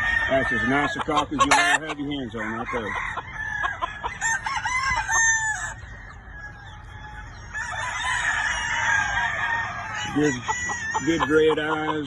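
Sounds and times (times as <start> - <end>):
chickens clucking: 0.0 - 12.0
roosters crowing: 0.0 - 12.0.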